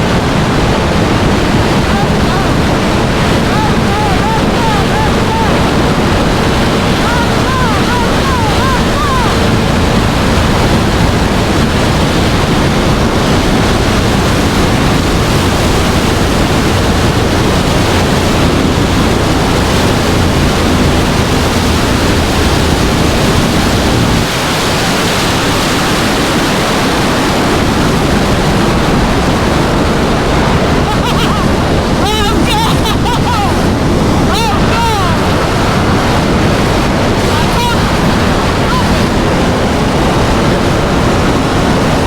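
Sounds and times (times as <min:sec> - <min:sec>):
motorcycle engine: 0:00.0 - 0:42.0
wind rushing over helmet: 0:00.0 - 0:42.0.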